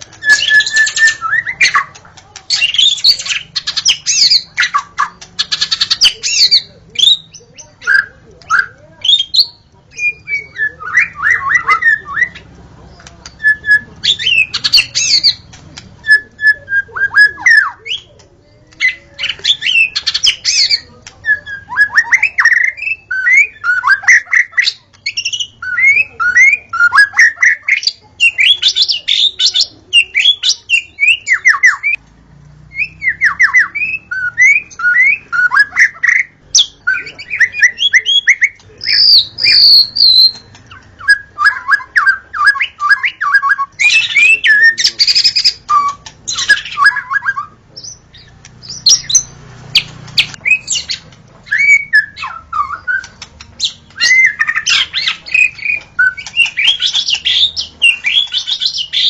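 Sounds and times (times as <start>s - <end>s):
bird singing whistled phrases: 0.2s - 12.4s, 13.4s - 18.1s, 18.8s - 32.0s, 32.7s - 59.0s.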